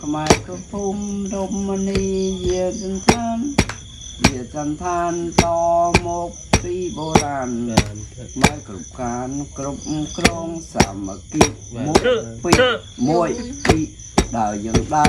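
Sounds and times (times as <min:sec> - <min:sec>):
crickets trilling: 0:00.0 - 0:15.0
music with singing and beat: 0:00.0 - 0:15.0.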